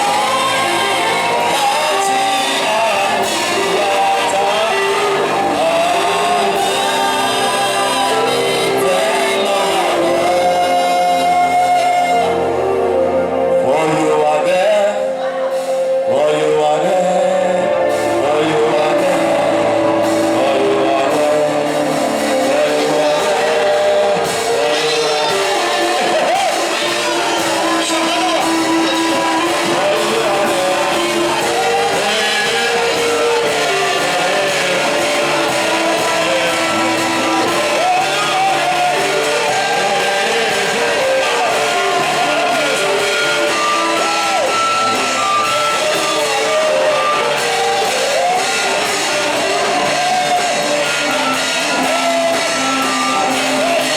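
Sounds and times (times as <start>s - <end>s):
guitar and band accompaniment: 0.0s - 53.9s
voices singing worship music: 0.0s - 53.9s.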